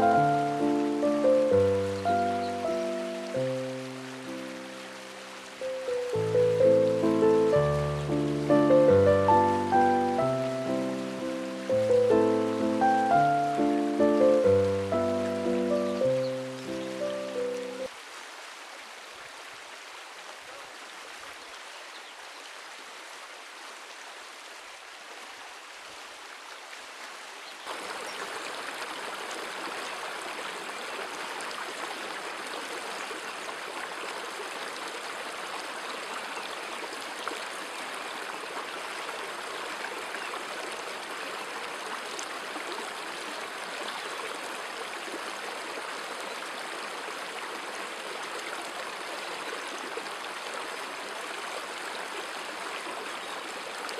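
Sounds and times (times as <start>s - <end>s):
stream running over rocks: 0.0s - 53.9s.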